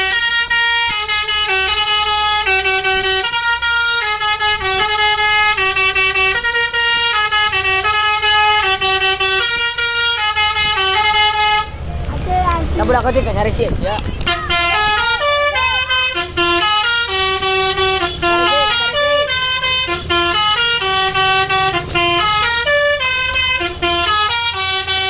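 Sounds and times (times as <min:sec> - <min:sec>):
multi-tone musical air horn: 0:00.0 - 0:11.7, 0:14.3 - 0:25.0
low engine rumble: 0:00.0 - 0:25.0.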